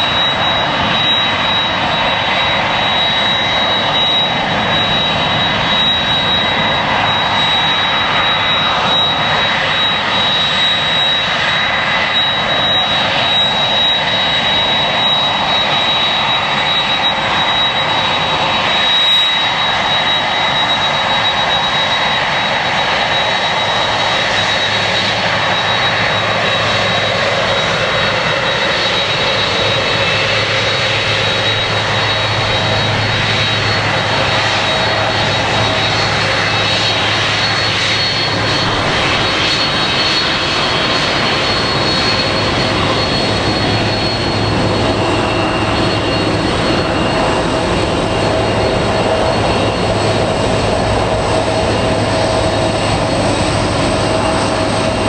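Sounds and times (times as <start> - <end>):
jet engines running with high whine: 0.0 - 55.0.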